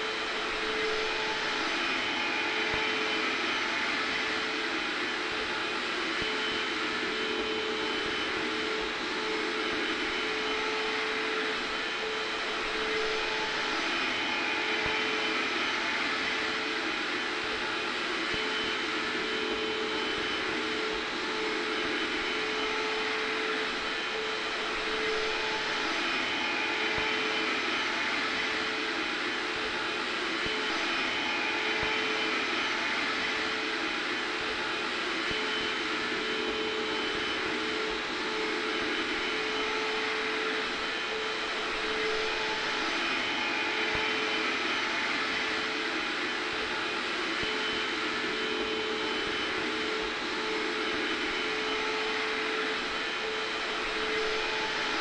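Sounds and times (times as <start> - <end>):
hair dryer blowing: 0.0 - 55.0
vacuum cleaner running: 0.0 - 55.0.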